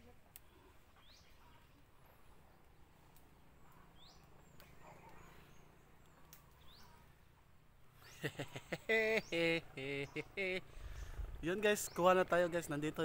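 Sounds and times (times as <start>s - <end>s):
faint outdoor hum: 0.0s - 13.0s.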